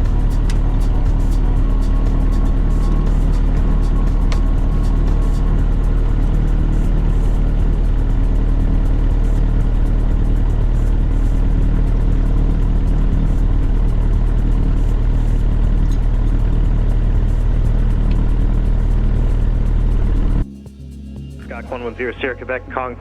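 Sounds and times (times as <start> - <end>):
aircraft engine and propeller: 0.0 - 23.0.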